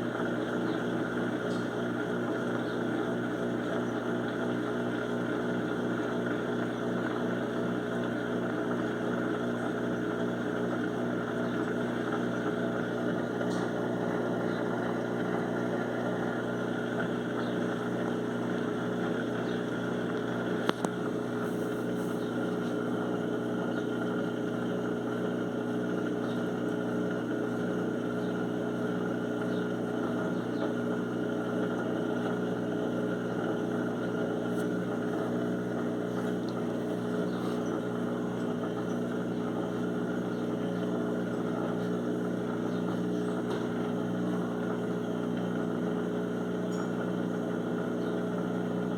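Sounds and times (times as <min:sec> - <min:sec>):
washing machine spinning hum: 0:00.0 - 0:48.9.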